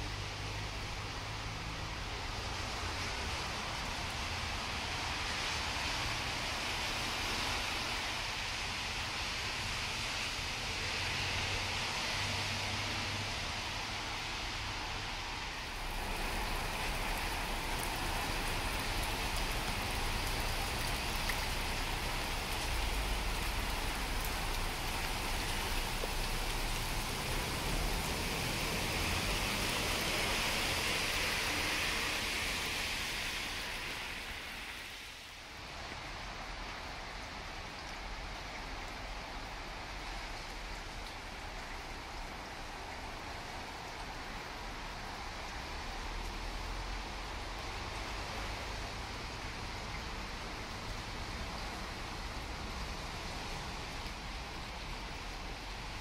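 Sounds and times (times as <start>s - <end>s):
rain on wet paving: 0.0s - 56.0s.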